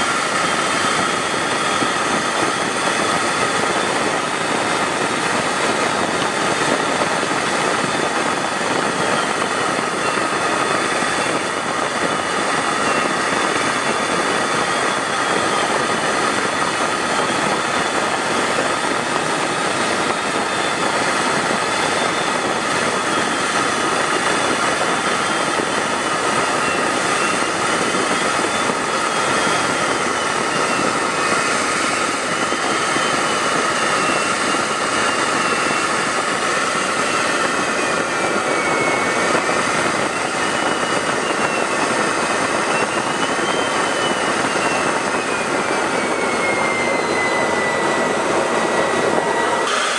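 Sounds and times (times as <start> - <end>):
aircraft engine and airflow rush: 0.0 - 49.9.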